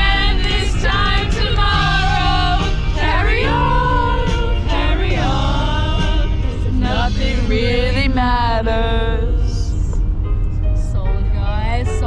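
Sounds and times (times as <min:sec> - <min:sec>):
low musical accompaniment: 0:00.0 - 0:12.0.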